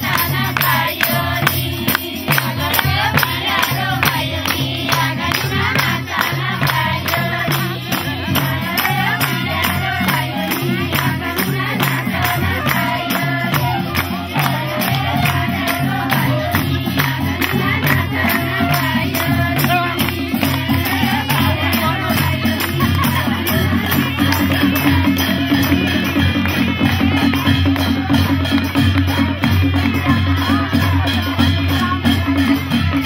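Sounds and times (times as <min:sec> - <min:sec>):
handclaps: 0:00.0 - 0:29.2
hand drum beat: 0:00.0 - 0:33.0
women singing folk song: 0:00.0 - 0:33.0.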